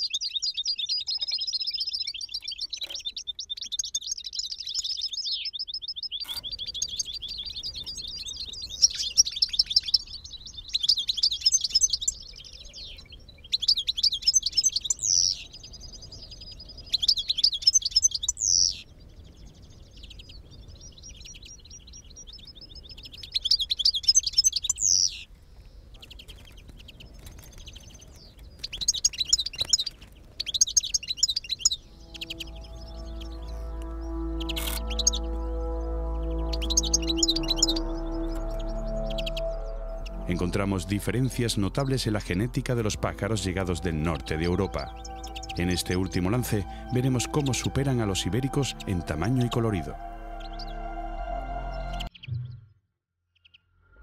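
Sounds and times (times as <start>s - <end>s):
bird twittering song: 0.0s - 50.8s.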